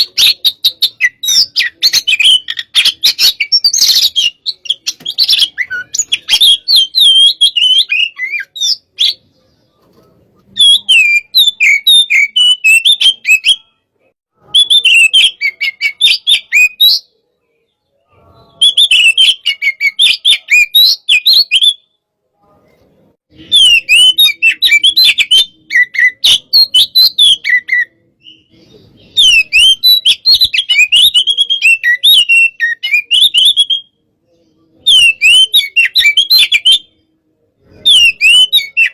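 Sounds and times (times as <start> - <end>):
magpie-robin singing: 0.0 - 13.8, 14.4 - 17.2, 17.8 - 21.9, 23.4 - 37.0, 37.7 - 38.9.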